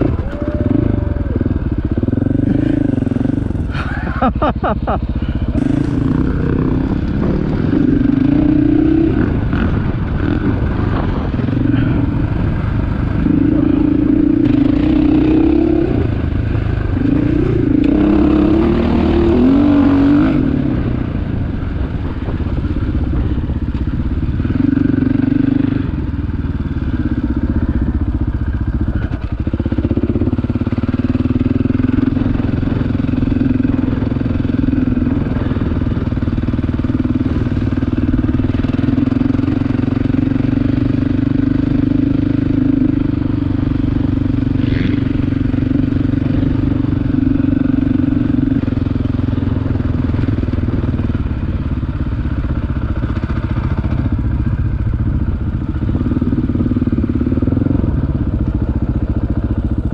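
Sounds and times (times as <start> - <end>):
dirt bike engine revving: 0.0 - 21.2, 24.2 - 59.2.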